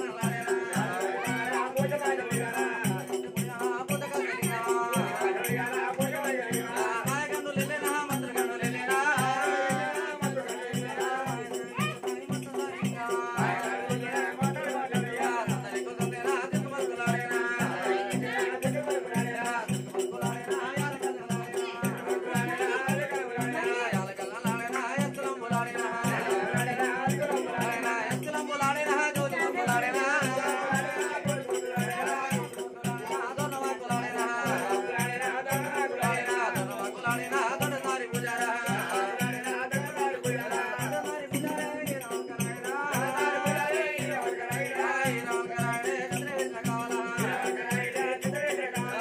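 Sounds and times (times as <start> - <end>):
even drum beat: 0.0 - 49.0
person singing: 0.0 - 49.0
rattling percussion: 0.0 - 49.0.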